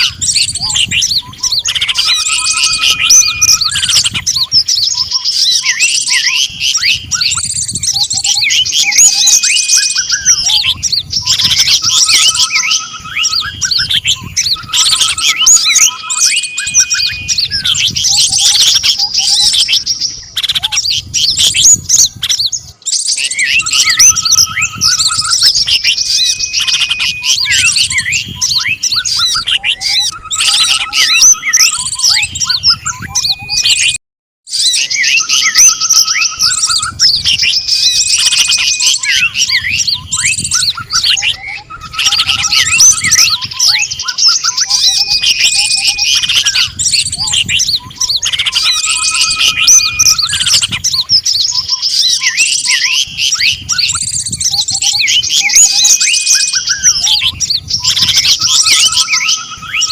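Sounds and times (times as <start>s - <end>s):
songbird chirps and trills: 0.0s - 34.0s, 34.6s - 59.9s
steady whistled notes: 0.1s - 20.0s, 22.9s - 34.0s, 34.8s - 59.9s.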